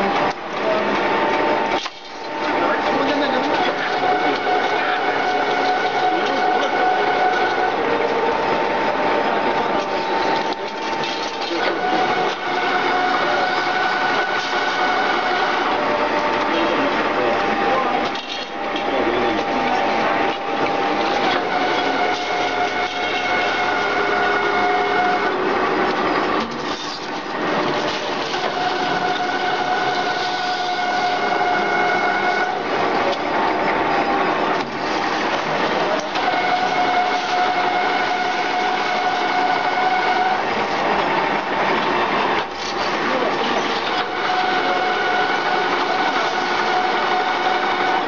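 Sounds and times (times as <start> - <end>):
machine cutting scrap radiators: 0.0 - 48.0
machine whine: 0.0 - 48.0.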